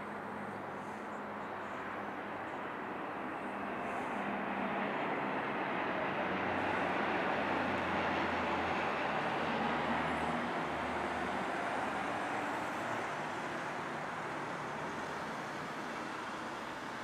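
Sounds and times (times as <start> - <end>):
broad rush of noise: 0.0 - 17.0
turboprop engines humming: 0.0 - 17.0.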